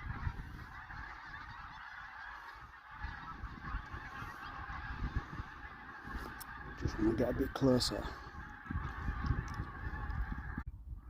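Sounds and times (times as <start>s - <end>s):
geese honking: 0.0s - 10.7s.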